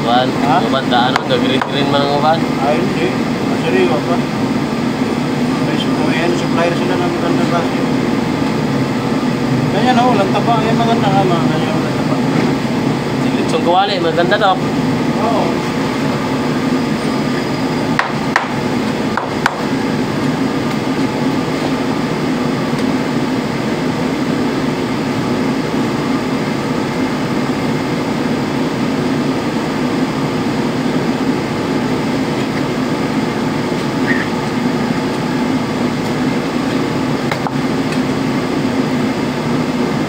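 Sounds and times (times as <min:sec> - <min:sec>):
loud steady hum: 0:00.0 - 0:40.0.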